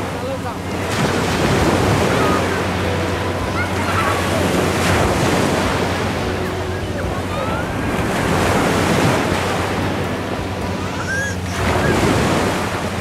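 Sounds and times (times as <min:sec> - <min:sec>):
waves breaking on a beach: 0:00.0 - 0:13.0
wind buffeting the microphone: 0:00.0 - 0:13.0.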